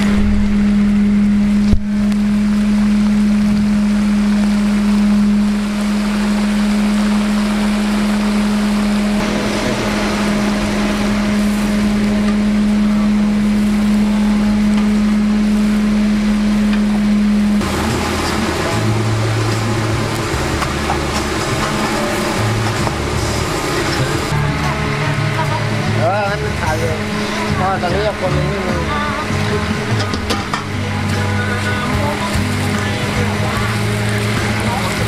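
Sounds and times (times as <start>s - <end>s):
loud steady hum: 0.0s - 35.0s
oil sizzling and bubbling: 0.0s - 35.0s.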